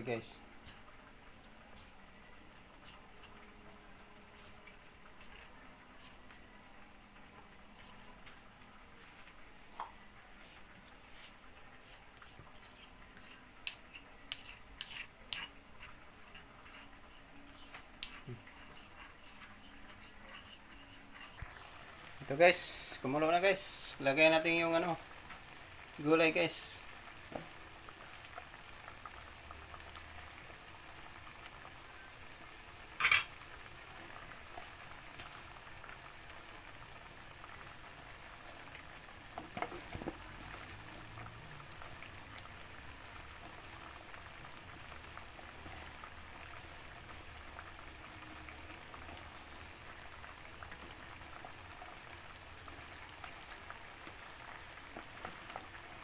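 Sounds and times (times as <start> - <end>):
broth boiling and bubbling: 0.0 - 56.0.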